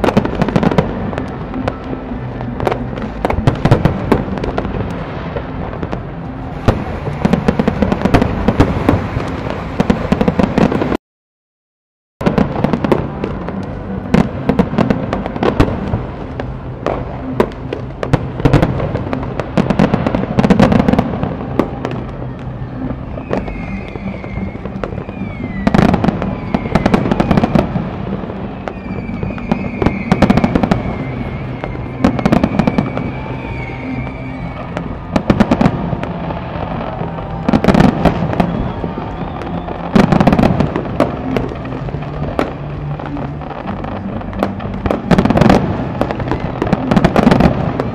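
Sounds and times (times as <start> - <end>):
music with low notes: 0.0 - 10.9, 12.2 - 47.9
firework crackle: 0.0 - 11.0, 12.2 - 47.9.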